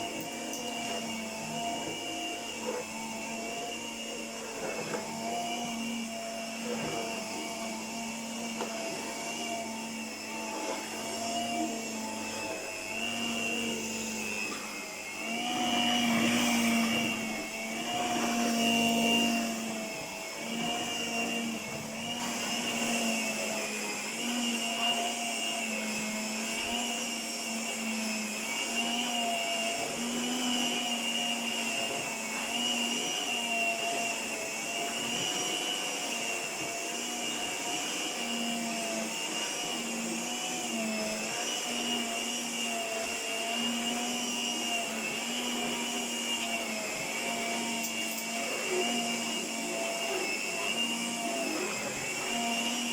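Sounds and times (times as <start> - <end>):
carpet sweeper motor whine: 0.0 - 52.9.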